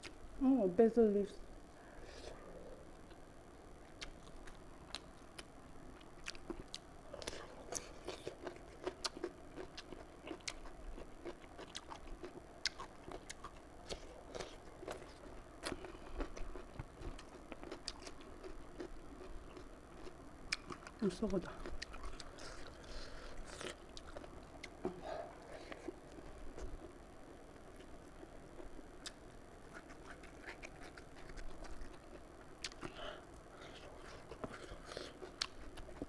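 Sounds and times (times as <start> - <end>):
person chewing food: 3.8 - 27.0, 27.6 - 36.0.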